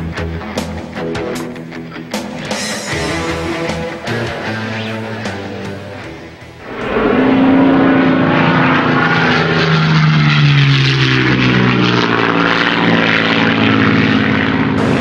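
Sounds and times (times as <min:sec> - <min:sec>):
aircraft-like droning: 0:00.0 - 0:15.0
held low tones: 0:02.4 - 0:15.0.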